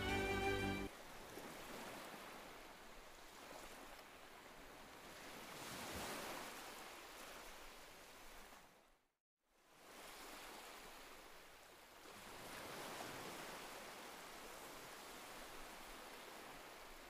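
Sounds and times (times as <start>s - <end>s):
waves washing on beach: 0.0s - 8.7s, 9.7s - 17.0s.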